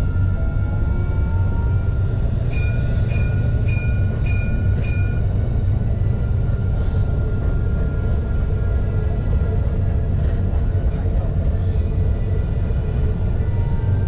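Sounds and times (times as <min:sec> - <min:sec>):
tram wheels rumbling: 0:00.0 - 0:14.0.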